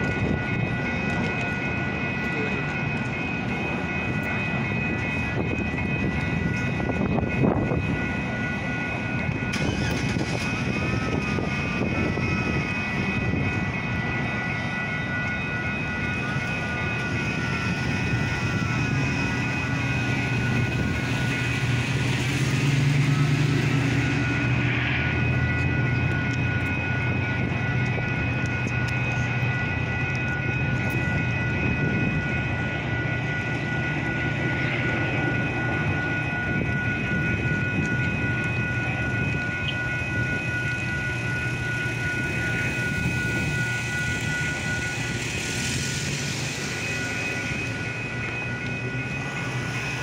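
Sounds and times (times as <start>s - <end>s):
crossing warning bells ringing: 0.0s - 50.0s
train rumbling: 0.0s - 50.0s.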